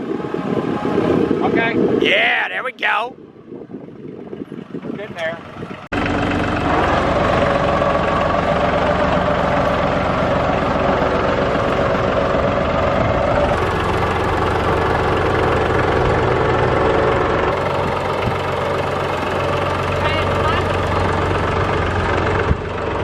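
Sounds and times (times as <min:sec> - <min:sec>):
tractor engine running: 0:00.0 - 0:02.0, 0:03.4 - 0:23.0.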